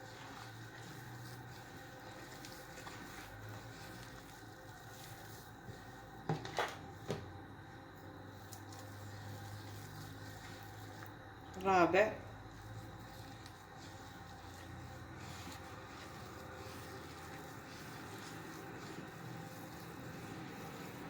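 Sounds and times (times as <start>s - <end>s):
hands squishing dough: 0.0s - 7.3s, 8.1s - 21.0s.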